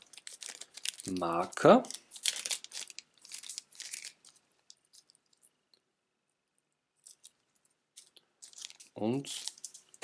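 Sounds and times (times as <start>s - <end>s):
plastic zip bag crinkling: 0.0s - 5.5s, 7.0s - 10.0s.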